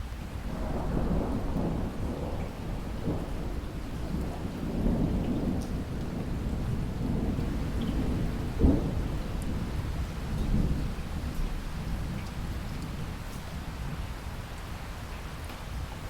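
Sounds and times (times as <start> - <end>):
steady rainfall: 0.0 - 16.0
rolling thunder: 0.3 - 14.5.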